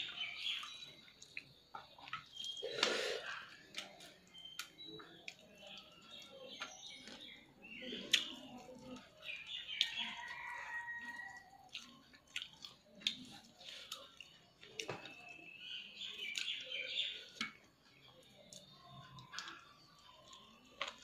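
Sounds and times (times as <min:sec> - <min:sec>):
chewing with wet smacks: 0:00.0 - 0:21.0.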